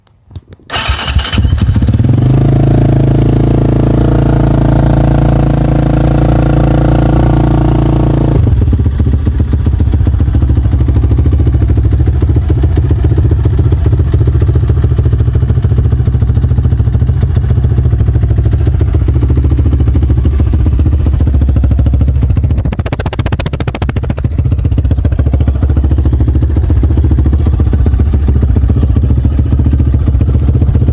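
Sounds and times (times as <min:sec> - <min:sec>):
motorcycle engine starting and running: 0:00.7 - 0:30.9.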